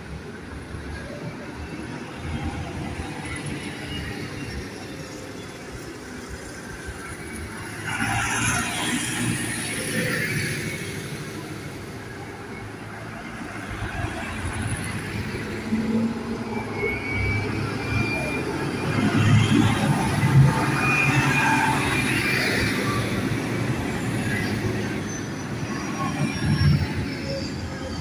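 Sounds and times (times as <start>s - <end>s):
tractor engines rumbling: 0.0s - 28.0s.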